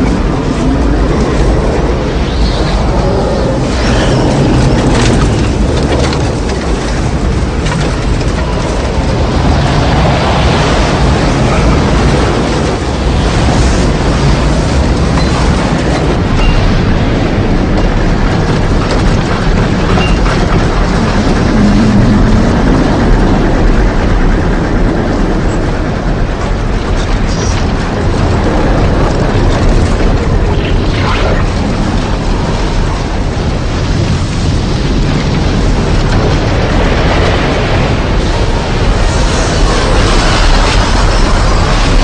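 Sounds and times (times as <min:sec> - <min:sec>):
tornado wind rushing: 0:00.0 - 0:42.0.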